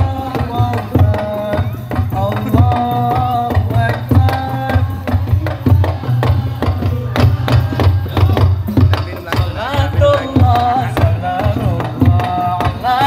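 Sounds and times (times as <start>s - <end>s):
drums beaten in fast rhythm: 0.0s - 13.0s.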